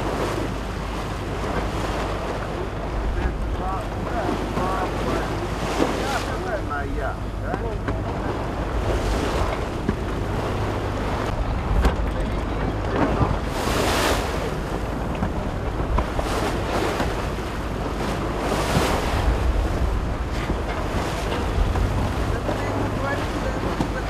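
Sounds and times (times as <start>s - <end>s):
choppy sea waves splashing: 0.0s - 24.0s
wind buffeting microphone: 0.0s - 24.0s.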